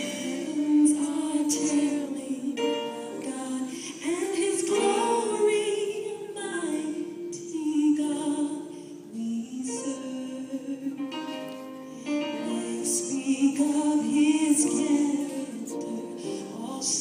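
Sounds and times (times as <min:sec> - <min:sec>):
voices singing worship song: 0:00.0 - 0:10.8, 0:12.4 - 0:17.0.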